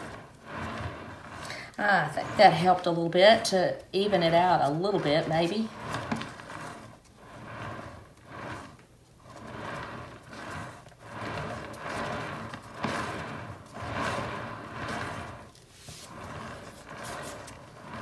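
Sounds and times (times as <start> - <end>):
turntable bearing rumbling: 0.0 - 18.0.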